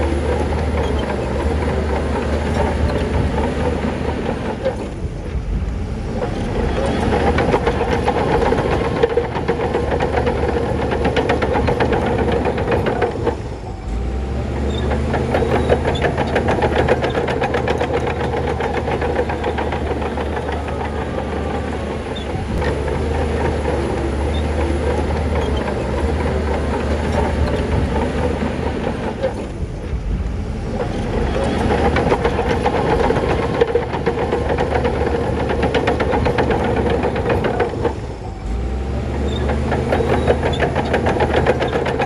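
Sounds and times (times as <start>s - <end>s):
bulldozer diesel engine: 0.0s - 42.0s
steel tracks clattering on stone: 6.2s - 13.7s, 14.3s - 30.0s, 30.7s - 42.0s.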